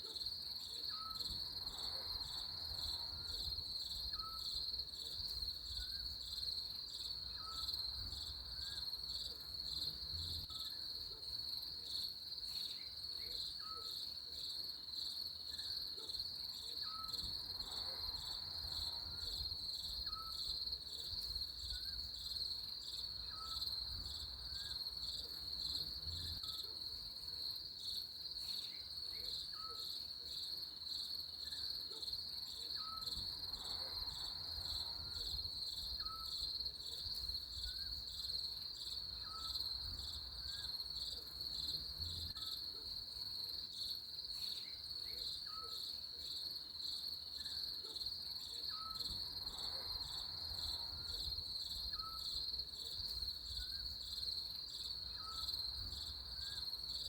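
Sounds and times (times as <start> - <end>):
high-pitched cricket chorus: 0.0 - 57.0.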